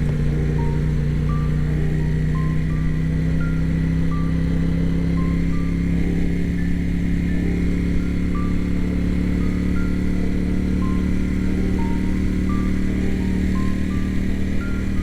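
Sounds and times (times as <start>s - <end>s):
sparse background music: 0.0s - 15.0s
steady engine drone: 0.0s - 15.0s.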